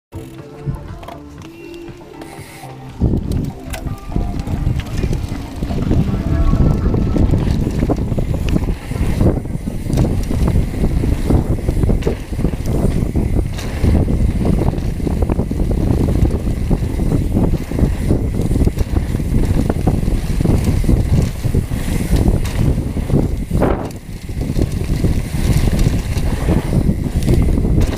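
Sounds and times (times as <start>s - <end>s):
bike knocking and rattling: 0.1s - 27.9s
wind buffeting microphone: 2.9s - 27.9s.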